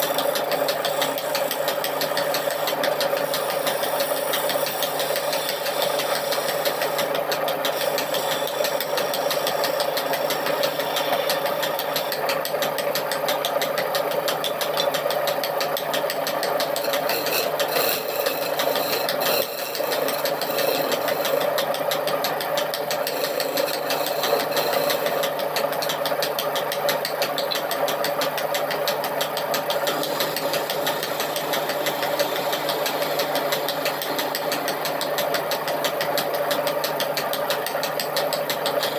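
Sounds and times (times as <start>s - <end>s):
electric power tool running: 0.0s - 14.2s, 16.0s - 26.3s, 27.1s - 38.9s.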